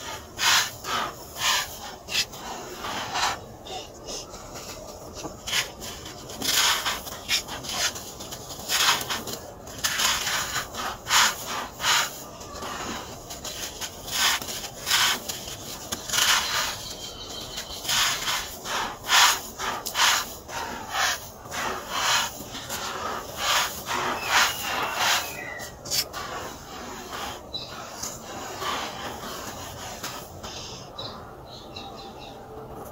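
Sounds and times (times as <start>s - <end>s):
gritty rustles of sand in hands: 0.0s - 31.1s.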